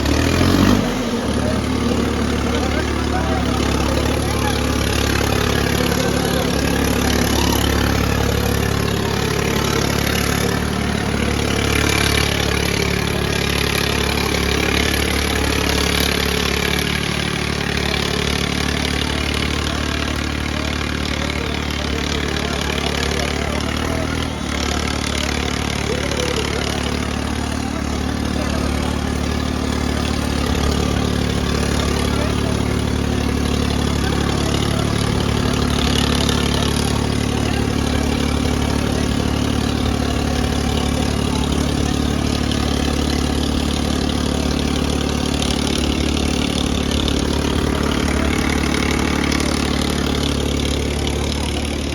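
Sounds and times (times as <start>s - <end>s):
diesel tractor engines running: 0.0s - 51.9s.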